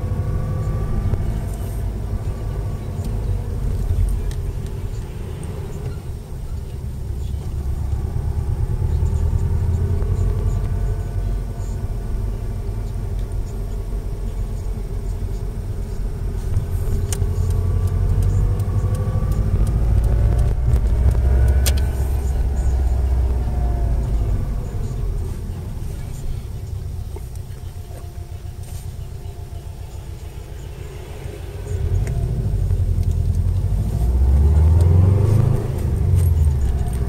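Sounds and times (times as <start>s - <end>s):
car road and drivetrain rumble: 0.0s - 37.0s
faint gearbox whine: 0.0s - 37.0s.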